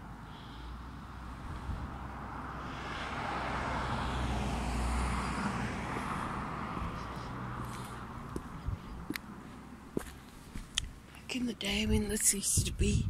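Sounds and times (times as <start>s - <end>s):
vehicle passing: 0.0s - 11.4s.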